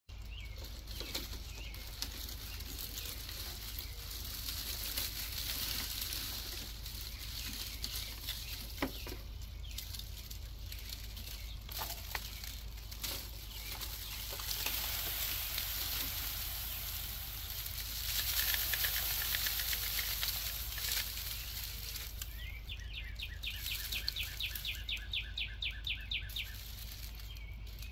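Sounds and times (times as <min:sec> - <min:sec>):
dry seed heads rustling: 0:00.1 - 0:27.9
seeds pattering into plastic tub: 0:00.2 - 0:27.9.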